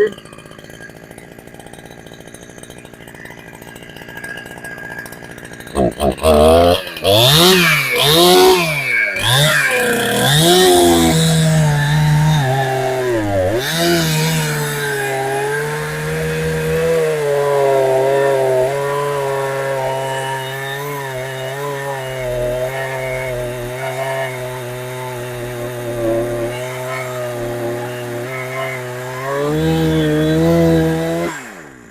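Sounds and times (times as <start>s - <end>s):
chainsaw running at high speed: 0.0s - 31.9s.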